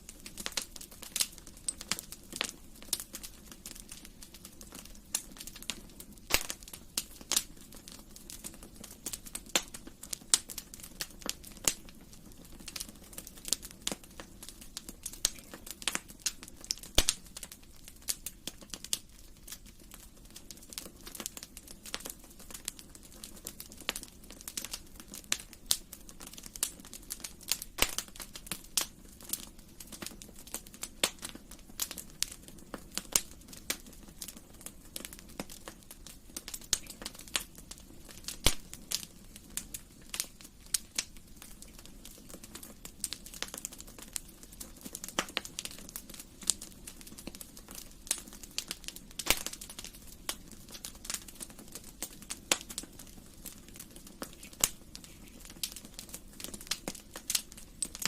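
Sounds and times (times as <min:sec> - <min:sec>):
low steady hiss: 0:00.0 - 0:58.0
wood fire crackling: 0:00.0 - 0:58.0.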